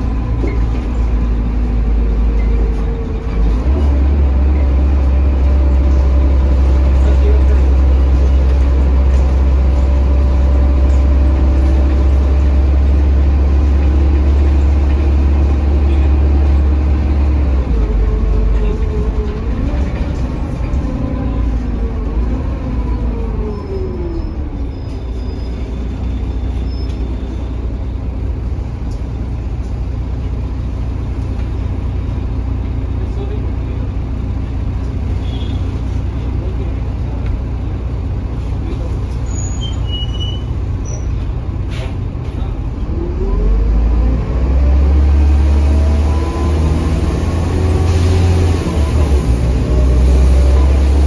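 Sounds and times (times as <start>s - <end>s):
bus diesel engine rumble: 0.0s - 51.0s
bus driveline whine: 0.0s - 51.0s.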